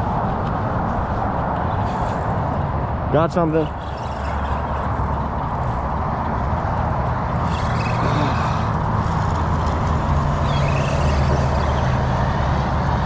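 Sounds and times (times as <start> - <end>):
low drone of vehicle engines: 0.0 - 13.0
road traffic noise: 0.0 - 13.0.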